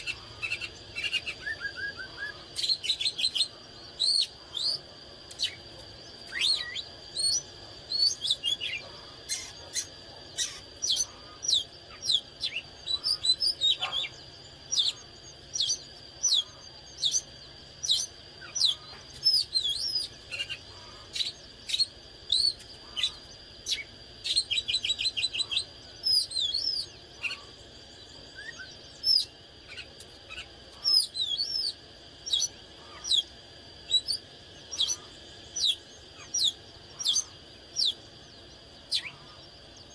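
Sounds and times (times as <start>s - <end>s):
bird singing whistled notes: 0.0s - 20.6s, 21.2s - 33.3s, 33.9s - 39.9s.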